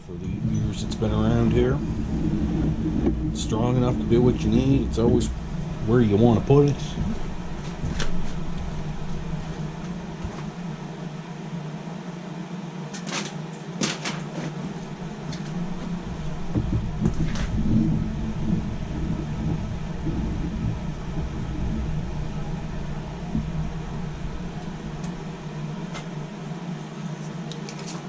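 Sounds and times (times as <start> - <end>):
heavy low rumble: 0.0 - 11.2, 14.7 - 26.6
shop machinery humming: 0.0 - 28.0.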